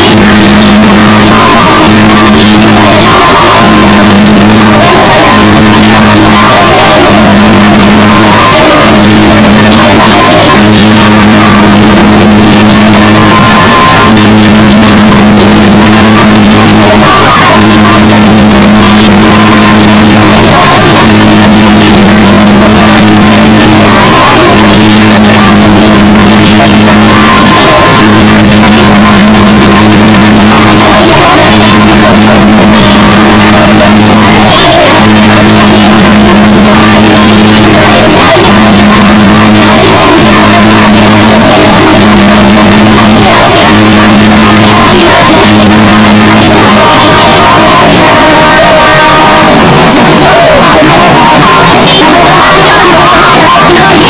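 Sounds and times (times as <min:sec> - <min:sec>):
harsh distorted noise music: 0:00.0 - 0:54.0.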